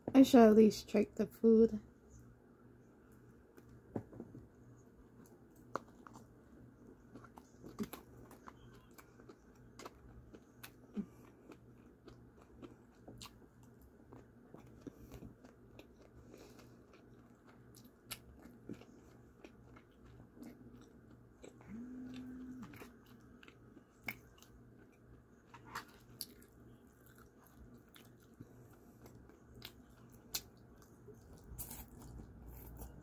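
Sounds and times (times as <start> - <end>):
low steady hum: 0.0 - 33.0
person chewing food: 3.0 - 33.0.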